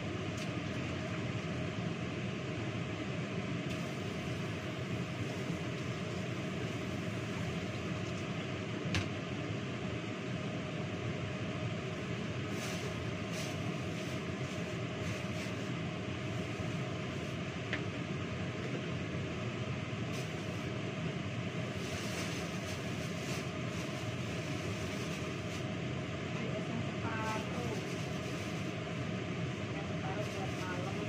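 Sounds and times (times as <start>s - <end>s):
electric fan whirring: 0.0s - 31.0s.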